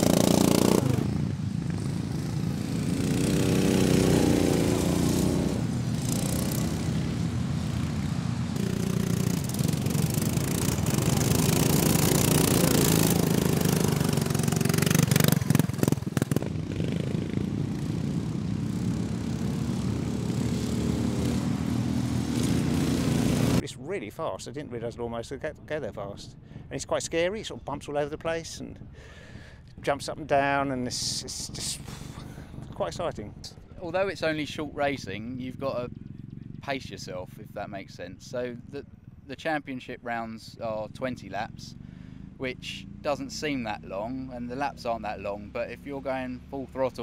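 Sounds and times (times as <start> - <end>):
lawn mower engines revving: 0.0 - 23.6, 28.8 - 47.0.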